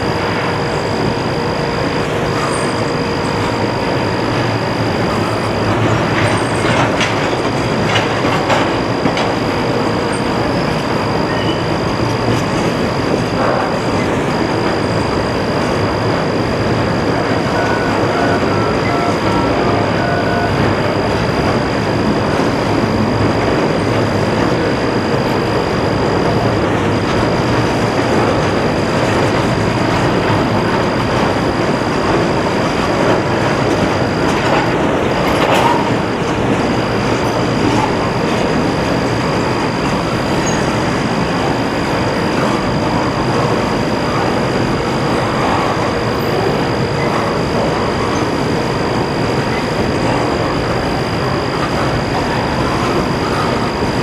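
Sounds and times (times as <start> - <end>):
steel train wheels rumbling on rails: 0.0 - 54.0.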